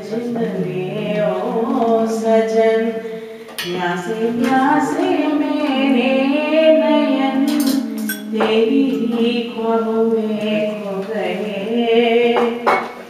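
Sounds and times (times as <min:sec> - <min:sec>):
steady held drone: 0:00.0 - 0:10.9
woman singing: 0:00.0 - 0:13.0.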